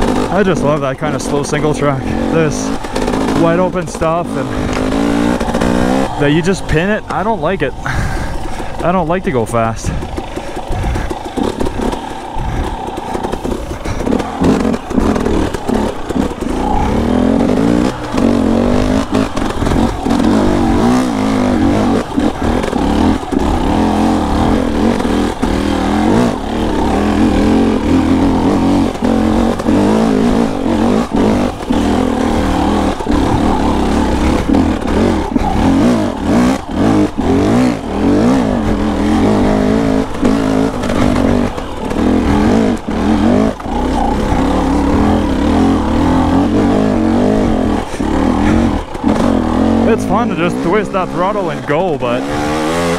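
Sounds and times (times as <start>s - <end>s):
bike knocking over rough trail: 0.0s - 52.9s
dirt bike engine revving: 0.0s - 52.9s.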